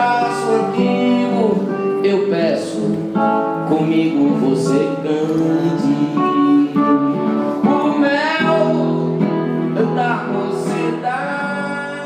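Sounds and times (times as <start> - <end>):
person singing: 0.0 - 12.0
strummed acoustic guitar: 0.0 - 12.0.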